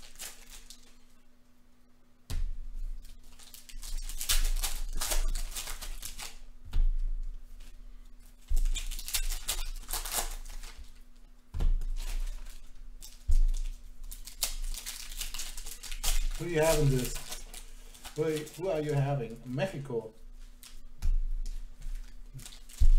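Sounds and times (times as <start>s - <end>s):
wrapper crinkling: 0.0s - 1.2s, 3.0s - 6.5s, 8.2s - 22.9s.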